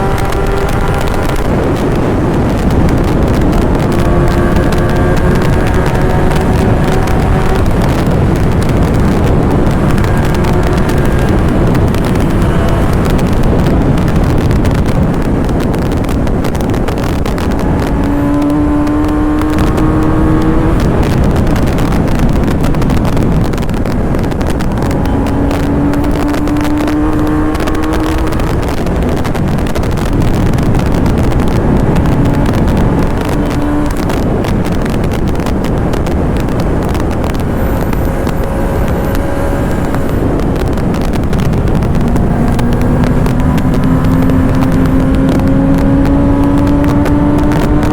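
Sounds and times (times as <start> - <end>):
motorcycle engine revving: 0.0 - 47.9
wind on microphone: 0.0 - 47.9.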